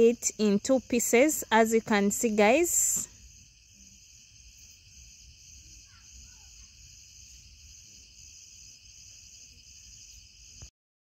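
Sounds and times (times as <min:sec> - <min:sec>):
crickets chirping: 0:00.0 - 0:10.7.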